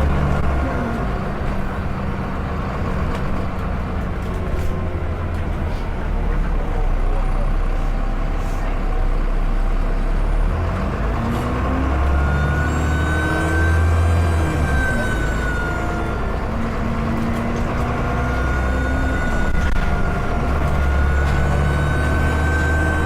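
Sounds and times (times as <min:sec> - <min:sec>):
bus engine pulling under load: 0:00.0 - 0:23.0.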